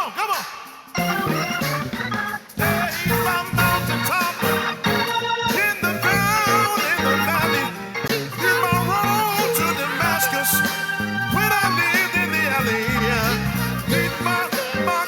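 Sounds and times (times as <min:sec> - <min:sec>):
organ playing gospel music: 0:00.2 - 0:15.0
bass line: 0:01.0 - 0:15.0.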